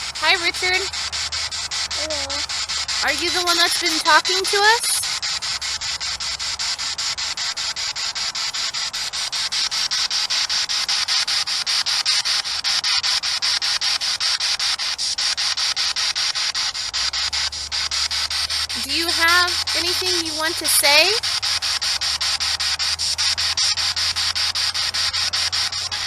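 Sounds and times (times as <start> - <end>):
chopped radio static: 0.0 - 26.0.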